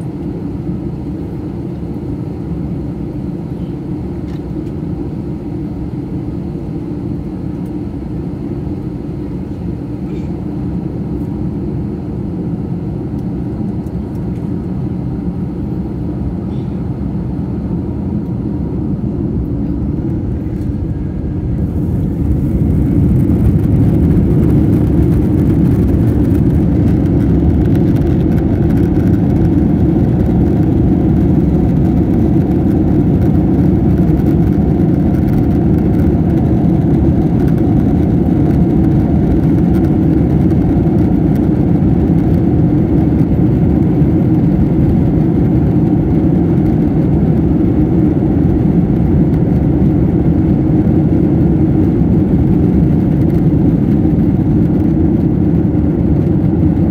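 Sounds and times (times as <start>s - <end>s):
jet engines from inside cabin: 0.0s - 56.9s.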